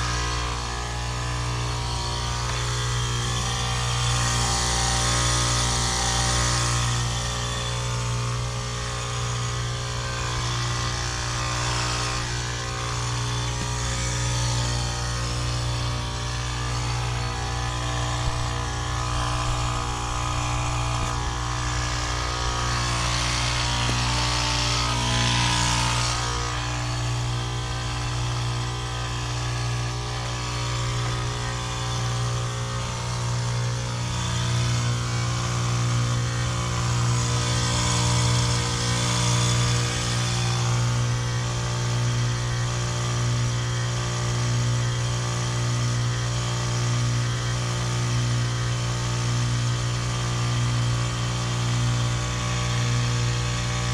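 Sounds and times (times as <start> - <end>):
heat pump compressor hum: 0.0 - 53.9.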